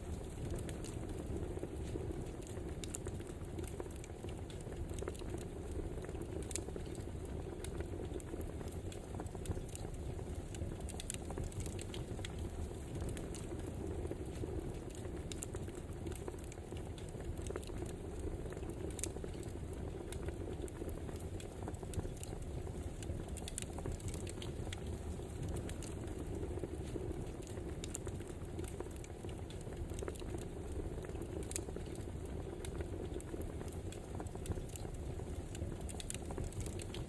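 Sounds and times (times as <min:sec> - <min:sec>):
wood fire burning: 0:00.0 - 0:37.0.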